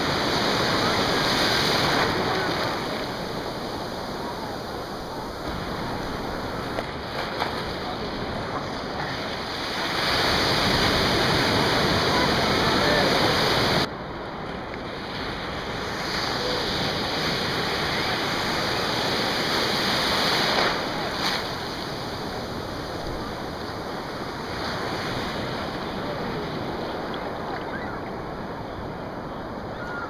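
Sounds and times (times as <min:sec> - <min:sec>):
waves breaking: 0:00.0 - 0:30.0.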